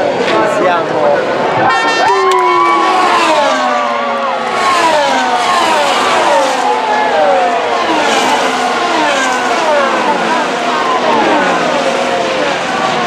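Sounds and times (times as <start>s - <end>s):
racing cars passing by: 0.0s - 13.0s.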